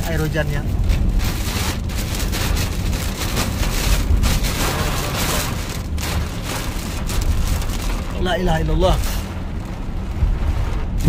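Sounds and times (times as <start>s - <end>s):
car rumbling on road: 0.0s - 11.0s
heavy rain on car roof: 0.0s - 11.0s.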